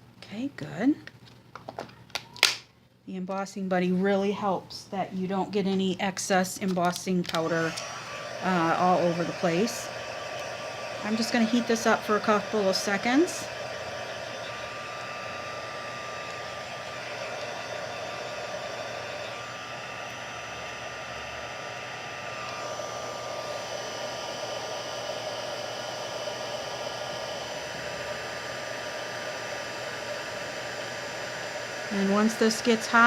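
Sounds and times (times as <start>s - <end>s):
heat tool blowing whir: 5.2s - 33.0s.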